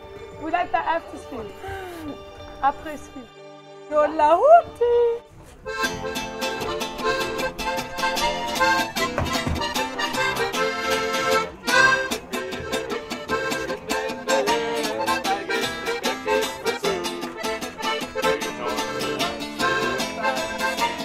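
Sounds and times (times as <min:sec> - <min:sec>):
accordion folk tune: 0:00.0 - 0:21.0
guitar accompaniment: 0:00.0 - 0:21.0.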